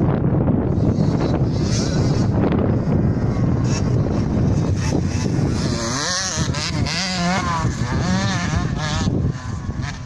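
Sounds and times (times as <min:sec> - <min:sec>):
motocross bike engine revving: 0:00.5 - 0:10.0.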